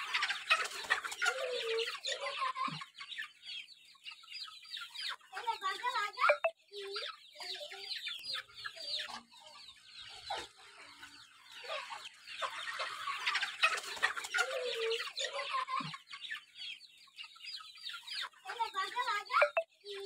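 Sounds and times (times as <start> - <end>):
chicks peeping: 0.0 - 20.0
hens clucking: 0.0 - 20.0.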